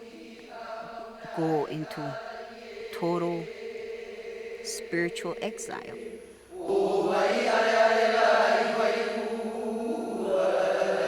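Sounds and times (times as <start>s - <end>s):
voices chanting long tones: 0.0s - 11.0s.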